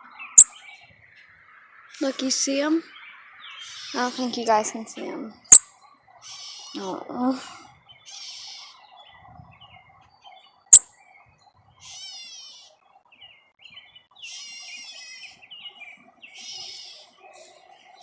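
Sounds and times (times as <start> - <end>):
robins chirping: 0.0 - 18.0.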